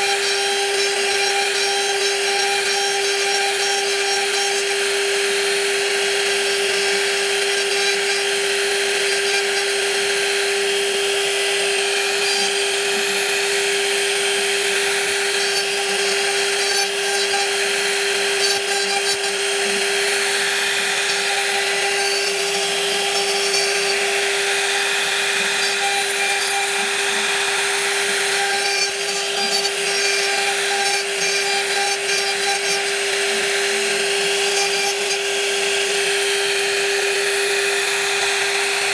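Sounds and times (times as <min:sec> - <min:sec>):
power tool cutting wood: 0:00.0 - 0:38.9.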